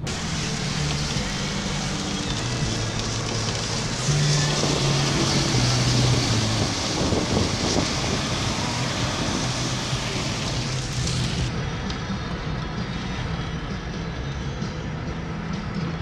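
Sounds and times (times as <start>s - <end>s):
low hum: 0.0s - 15.2s
car road and wind noise: 0.0s - 16.0s.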